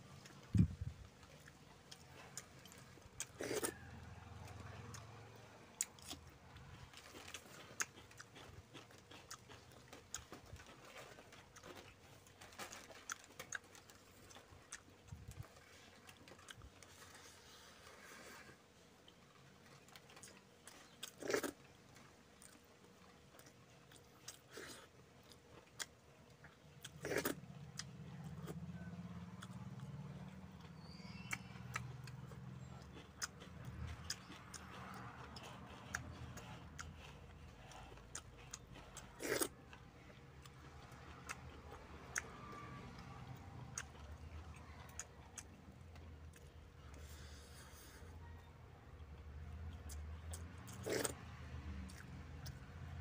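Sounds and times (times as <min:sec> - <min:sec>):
chewing and wet mouth noises: 0:00.0 - 0:53.0.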